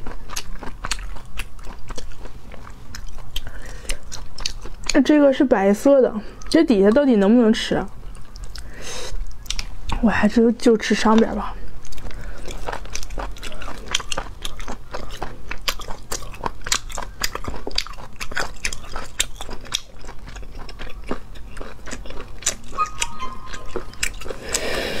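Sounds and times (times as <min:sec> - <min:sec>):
wet chewing: 0:00.0 - 0:05.4, 0:06.3 - 0:10.0, 0:10.9 - 0:25.0.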